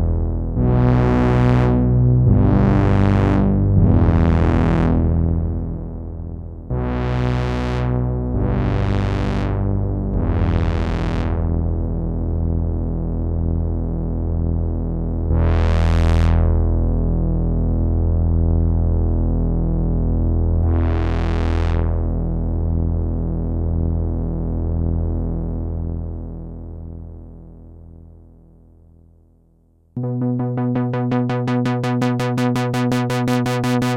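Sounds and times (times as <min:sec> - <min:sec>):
synthesizer playing low chords: 0:00.0 - 0:28.0, 0:30.0 - 0:33.9.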